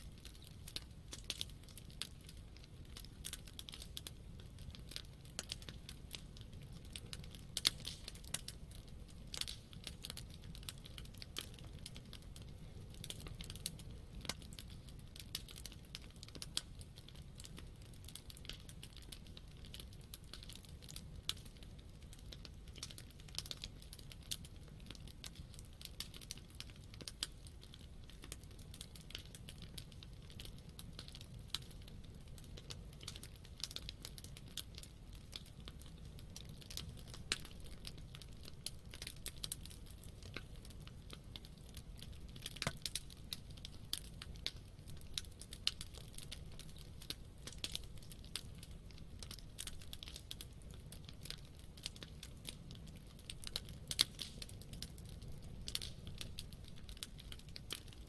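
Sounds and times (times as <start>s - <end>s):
low rumble of burning fire: 0.0s - 58.0s
campfire pops and snaps: 0.2s - 58.0s.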